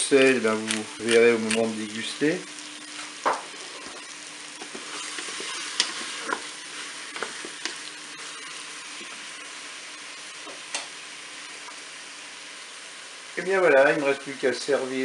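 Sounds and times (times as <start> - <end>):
food sizzling in butter: 0.0 - 15.0.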